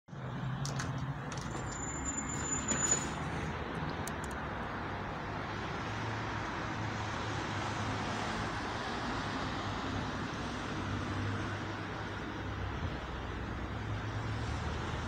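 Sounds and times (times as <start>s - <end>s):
distant road traffic: 0.1s - 15.0s.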